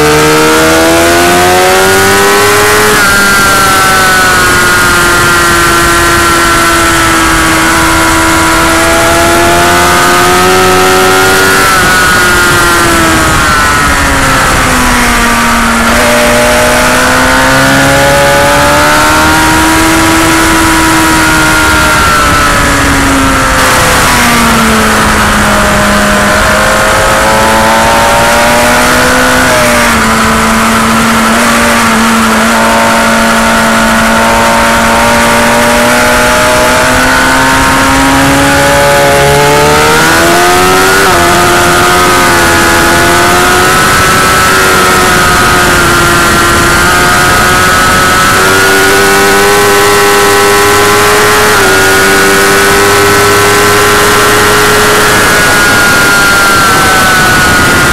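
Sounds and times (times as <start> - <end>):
motorcycle engine at racing speed: 0.0 - 57.9
wind rush: 0.0 - 57.9.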